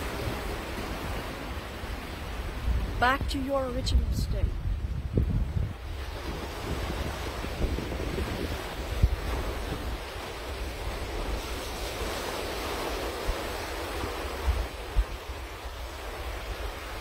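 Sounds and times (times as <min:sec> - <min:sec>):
ocean surf on sandy beach: 0:00.0 - 0:17.0
wind gusting on microphone: 0:00.0 - 0:17.0.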